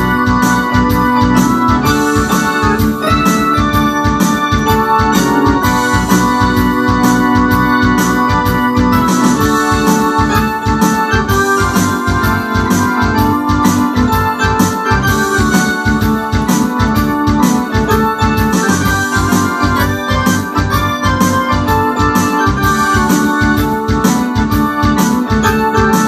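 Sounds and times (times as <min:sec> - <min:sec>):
quick steady beat: 0:00.0 - 0:26.0
synthesizer keyboard rock part: 0:00.0 - 0:26.0.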